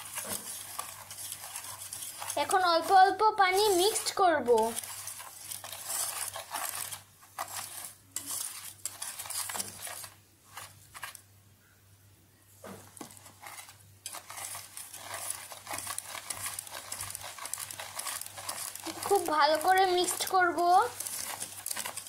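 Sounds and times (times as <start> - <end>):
whisk scraping metal saucepan: 0.0 - 11.2, 12.8 - 22.0.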